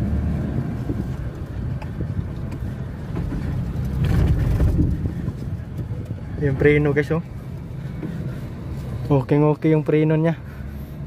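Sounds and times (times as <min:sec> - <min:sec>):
pickup engine and road noise: 0:00.0 - 0:11.0.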